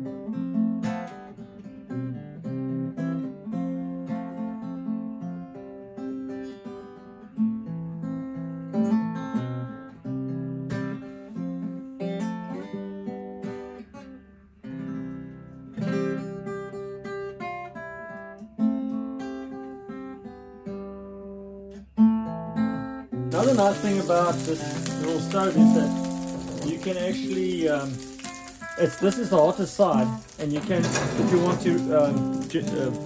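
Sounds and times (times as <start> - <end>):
acoustic guitar picked and strummed: 0.0 - 33.0.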